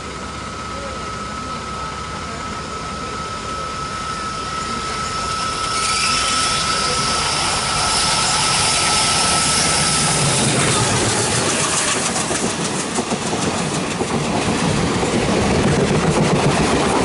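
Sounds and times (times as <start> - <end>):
steady high-pitched tone: 0.0 - 14.1
diesel locomotive approaching: 0.0 - 17.0.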